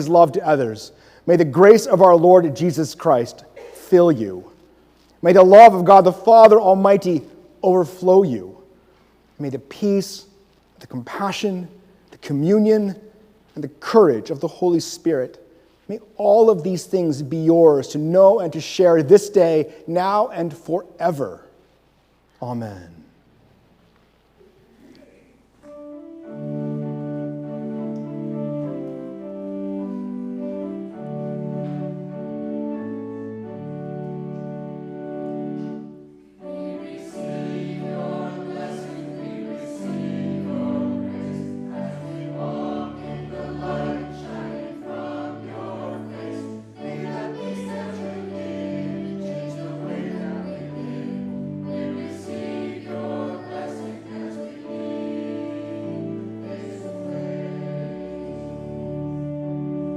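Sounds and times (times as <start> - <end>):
church music chords: 0.0 - 59.9.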